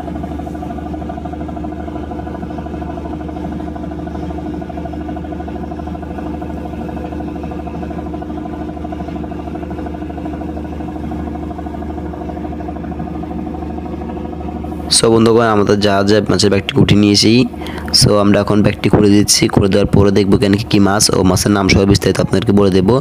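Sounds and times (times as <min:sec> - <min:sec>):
boat engine and deck machinery drone: 0:00.0 - 0:23.0.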